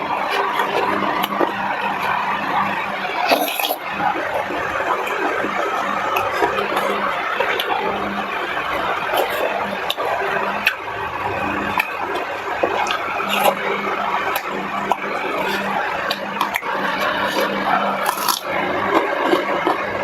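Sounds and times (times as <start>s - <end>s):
steady background hum: 0.0s - 20.0s
person chewing wetly: 0.2s - 20.0s.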